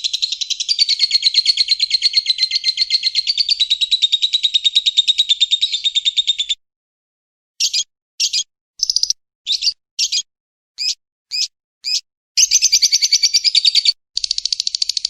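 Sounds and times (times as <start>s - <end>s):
high pulsed bird chirps: 0.0s - 6.6s, 7.6s - 15.0s
long fast bird trill: 0.0s - 6.6s, 7.6s - 15.0s.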